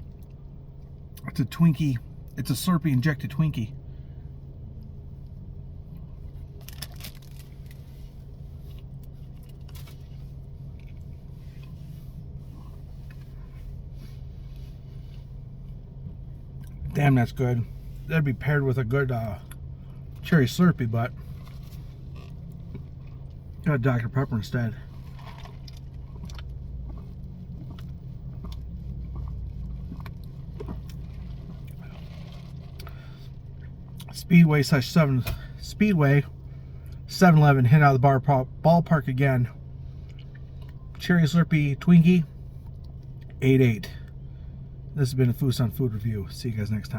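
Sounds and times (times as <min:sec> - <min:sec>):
car engine idling: 0:00.0 - 0:46.9
steady low hum: 0:00.0 - 0:46.9.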